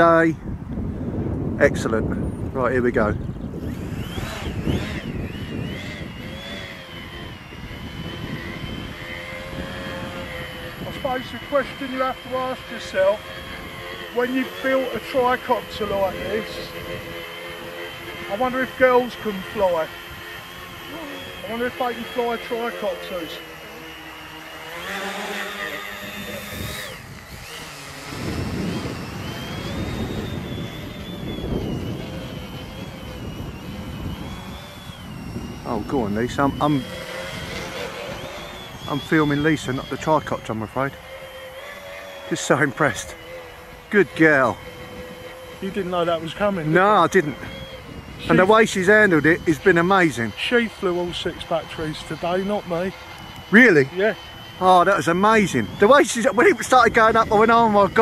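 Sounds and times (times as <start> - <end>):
wind rumble on microphone: 0.0 - 41.1, 42.3 - 58.0
drone motors and propellers whining: 0.0 - 58.0.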